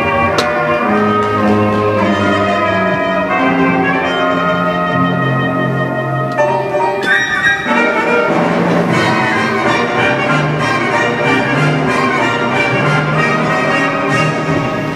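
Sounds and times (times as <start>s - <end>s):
orchestral music with brass: 0.0s - 14.9s.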